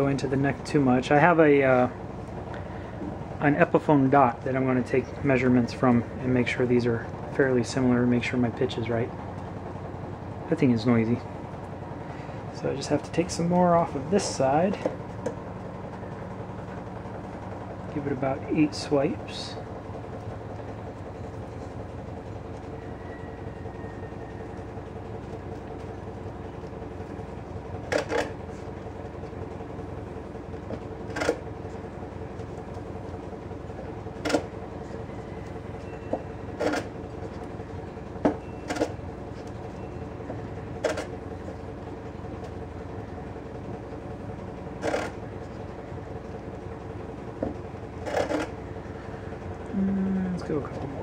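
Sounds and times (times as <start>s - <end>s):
pool cleaner hum: 0.0s - 51.0s.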